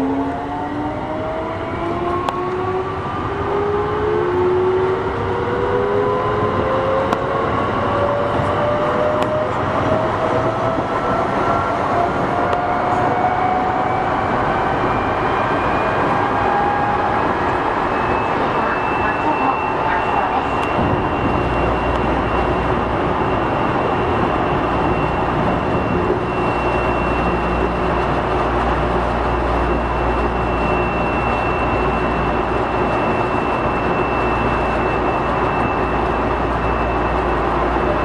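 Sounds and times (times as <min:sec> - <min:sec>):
electric train motors whining: 0:00.0 - 0:38.0
wheels rumbling on rail: 0:00.0 - 0:38.0.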